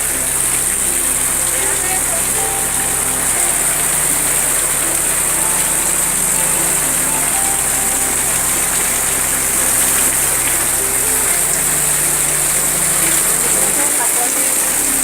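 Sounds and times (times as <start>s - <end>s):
low hum: 0.0s - 15.0s
water pouring through leaking roof: 0.0s - 15.0s.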